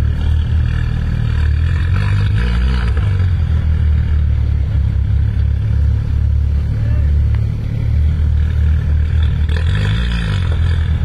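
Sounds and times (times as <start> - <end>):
car engines idling: 0.0 - 11.0
engine revving: 0.0 - 11.0.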